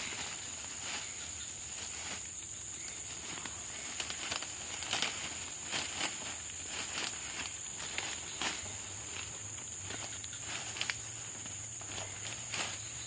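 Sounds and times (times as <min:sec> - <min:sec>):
high insect drone: 0:00.0 - 0:13.0
net rustling and crackling: 0:01.8 - 0:13.0.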